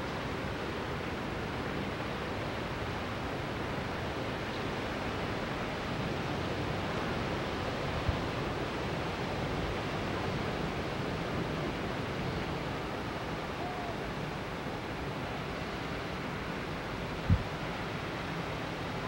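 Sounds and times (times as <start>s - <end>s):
wind rushing through trees: 0.0s - 19.0s.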